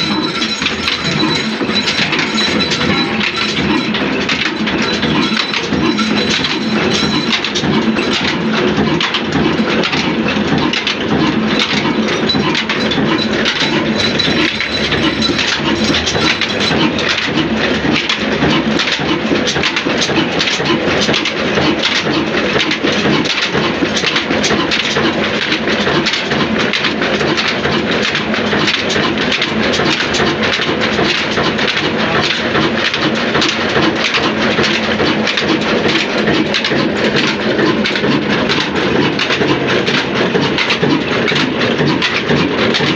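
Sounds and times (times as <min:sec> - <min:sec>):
diesel engine rumbling and clattering: 0:00.0 - 0:42.9.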